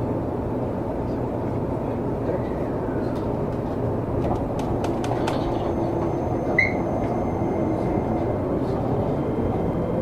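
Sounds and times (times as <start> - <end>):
train wheels rumbling: 1.8 - 10.0.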